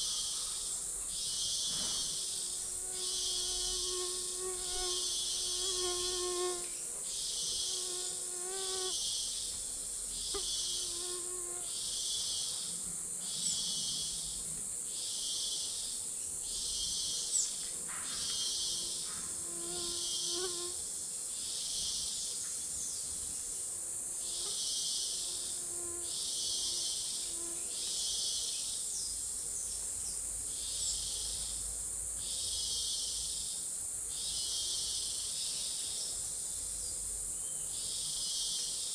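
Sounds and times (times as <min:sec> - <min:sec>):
high-pitched insect buzz: 0:00.0 - 0:38.9.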